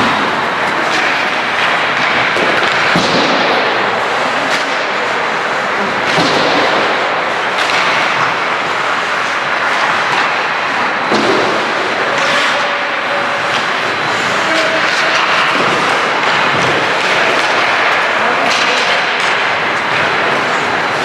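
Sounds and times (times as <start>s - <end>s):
hockey sticks and puck knocking: 0.0s - 21.0s
skates scraping on ice: 0.0s - 21.0s.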